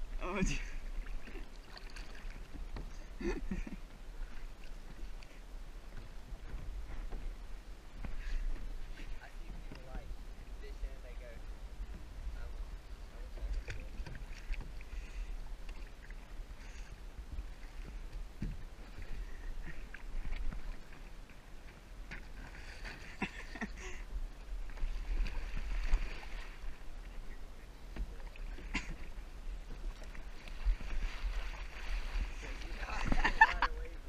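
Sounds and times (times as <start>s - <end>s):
paddle blades splashing: 0.0s - 34.0s
water lapping and dripping: 0.0s - 34.0s.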